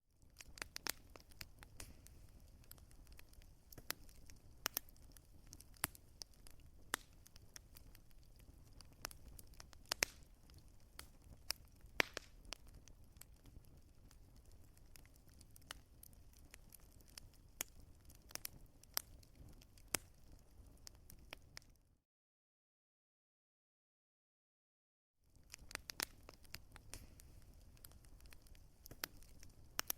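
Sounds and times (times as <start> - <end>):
wood fire crackling: 0.1 - 21.8, 25.2 - 29.9.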